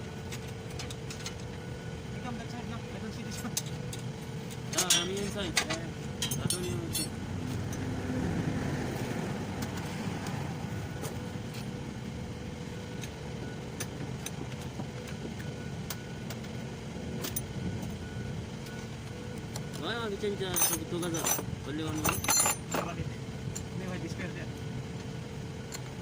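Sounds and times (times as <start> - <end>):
engine running low rumble: 0.0 - 26.0.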